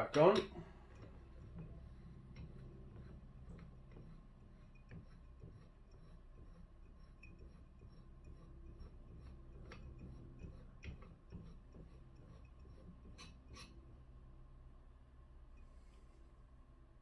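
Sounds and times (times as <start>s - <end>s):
faint clicks and scrapes: 0.3s - 14.0s.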